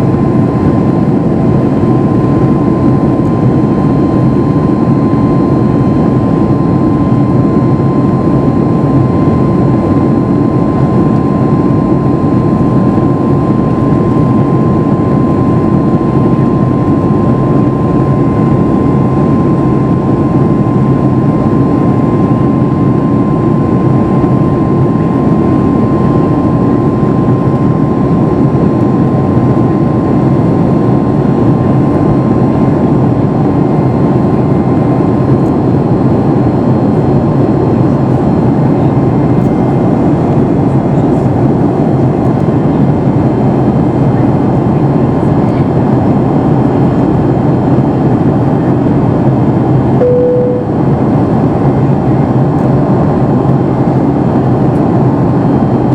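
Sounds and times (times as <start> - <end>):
jet engine cabin drone: 0.0 - 55.9
thin steady whine: 0.0 - 55.9.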